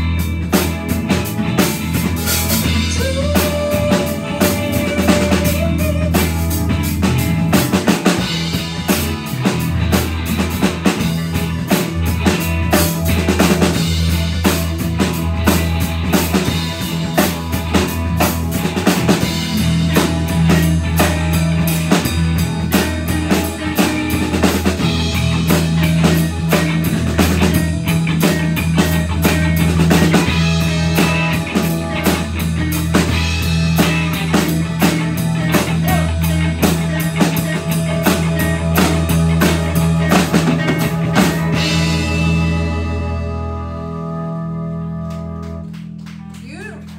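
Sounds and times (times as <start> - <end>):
drum kit beat: 0.0 - 44.0
electric bass: 0.0 - 46.9
electric guitar: 0.0 - 46.9
keyboard: 0.0 - 46.9.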